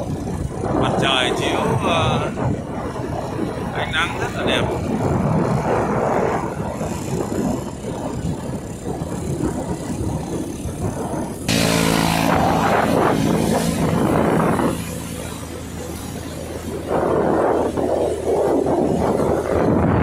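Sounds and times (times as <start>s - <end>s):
motorbike engine running: 0.0s - 20.0s
wind buffeting microphone: 0.0s - 20.0s.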